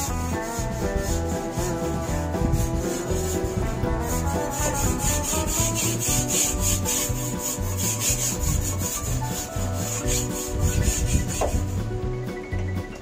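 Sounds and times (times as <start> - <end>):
brush scrubbing sheet metal: 0.0 - 12.0.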